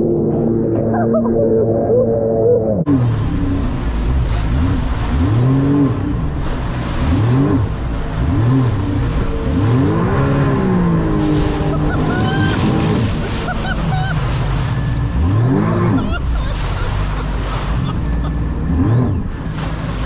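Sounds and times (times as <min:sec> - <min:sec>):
jet ski engine revving: 0:02.8 - 0:20.0
wind and water rushing: 0:02.9 - 0:20.0.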